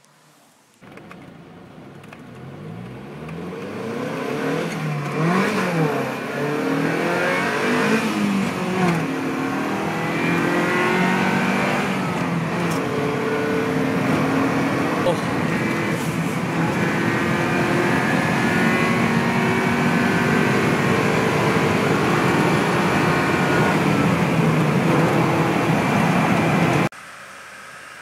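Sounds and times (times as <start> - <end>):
car engine accelerating: 0.8 - 28.0.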